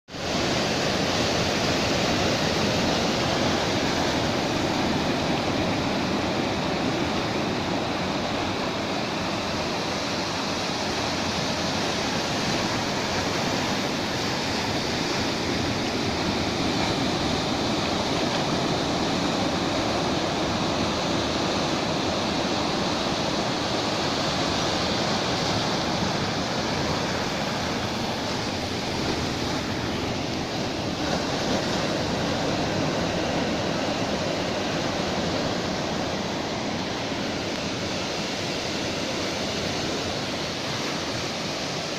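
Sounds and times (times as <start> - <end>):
sea waves breaking on a beach: 0.1 - 41.9.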